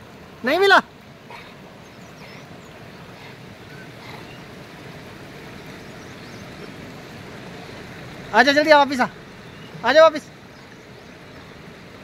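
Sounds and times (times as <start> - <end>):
river flowing over rocks: 0.0 - 12.0.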